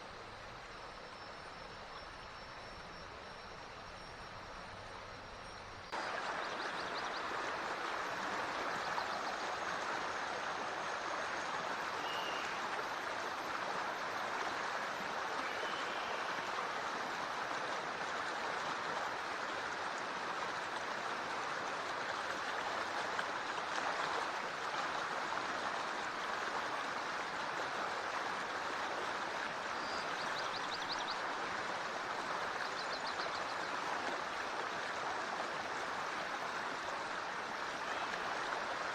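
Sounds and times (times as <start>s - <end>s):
stream flowing over rocks: 5.9s - 38.9s.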